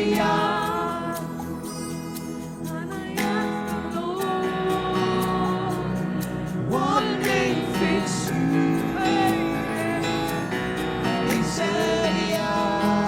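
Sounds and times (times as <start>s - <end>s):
person singing: 0.0s - 1.8s, 2.6s - 13.0s
held instrumental chords: 0.2s - 13.0s.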